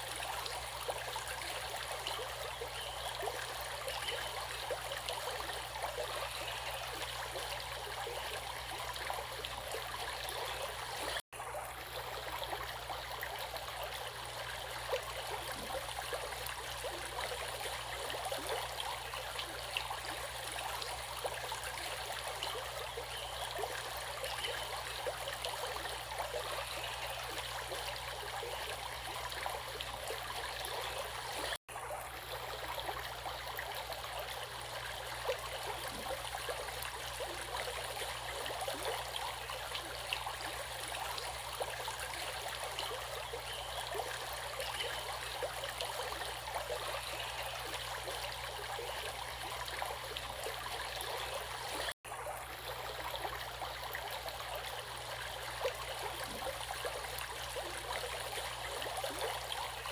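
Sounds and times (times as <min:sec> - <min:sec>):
stream water bubbling: 0:00.0 - 0:59.9.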